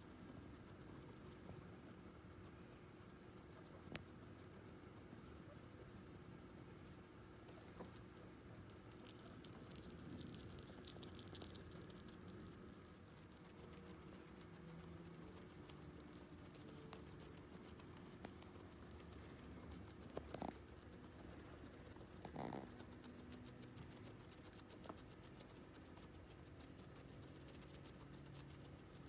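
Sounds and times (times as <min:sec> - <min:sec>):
guinea pigs chewing: 0:00.0 - 0:29.0
low steady hum: 0:00.0 - 0:29.0.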